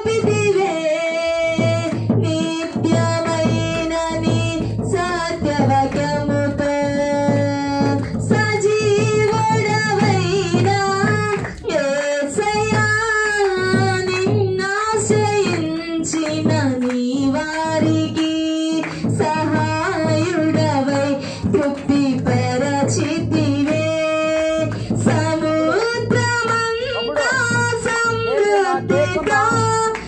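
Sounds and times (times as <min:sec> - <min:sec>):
woman singing into microphone: 0:00.0 - 0:30.0.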